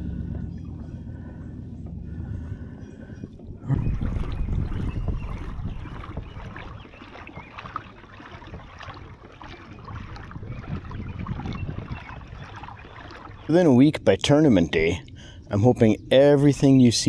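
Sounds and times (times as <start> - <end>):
water drips: 0.0 - 16.7
water sloshing around kayak hull: 0.0 - 17.0
wind rumble on microphone: 0.0 - 17.0.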